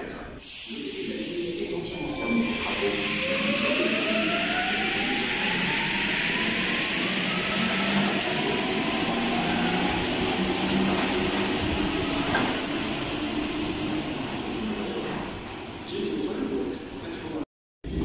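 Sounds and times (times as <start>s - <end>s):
train rolling rumble: 2.6s - 17.3s.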